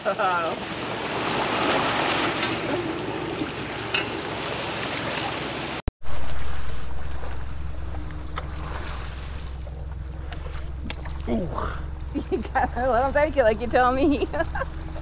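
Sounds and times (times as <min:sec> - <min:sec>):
low engine hum: 0:00.0 - 0:15.0
water around boat: 0:00.0 - 0:15.0
wind: 0:00.0 - 0:15.0.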